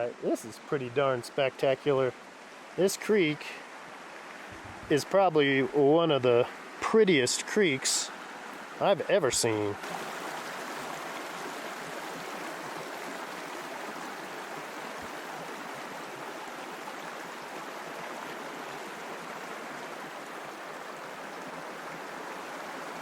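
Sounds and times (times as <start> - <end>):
creek rushing over rocks: 0.0 - 23.0.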